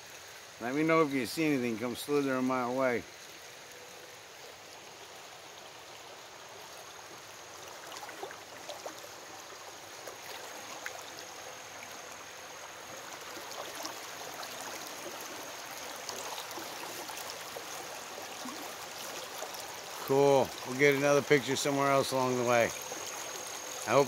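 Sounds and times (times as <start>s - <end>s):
creek water running over rocks: 0.0s - 24.0s.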